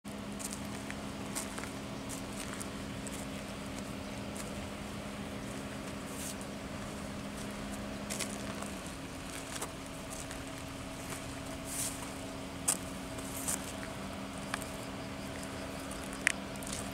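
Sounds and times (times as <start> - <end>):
steady mechanical hum: 0.1 - 16.9.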